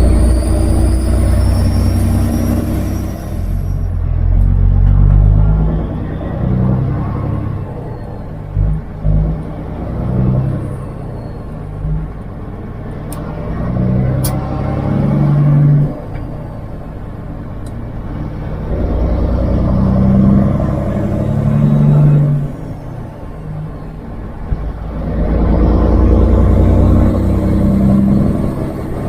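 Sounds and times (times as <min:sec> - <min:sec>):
truck diesel engine pulling: 0:00.0 - 0:29.0.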